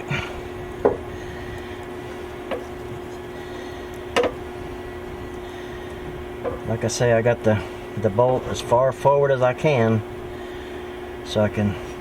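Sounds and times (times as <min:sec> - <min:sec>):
welder humming: 0:00.0 - 0:12.0.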